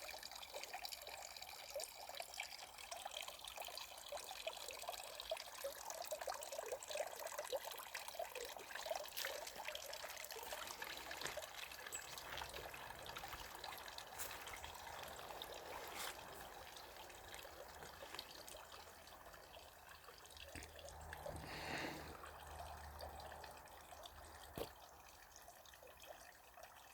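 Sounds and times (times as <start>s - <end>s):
water trickling down a cascade: 0.0s - 26.9s.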